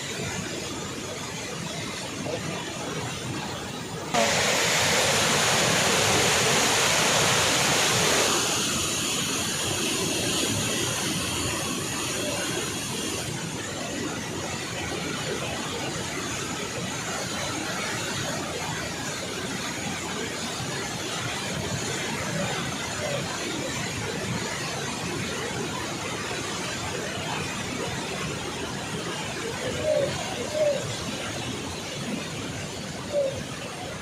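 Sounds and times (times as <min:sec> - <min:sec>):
water rushing through dam spillway: 0:00.0 - 0:34.0.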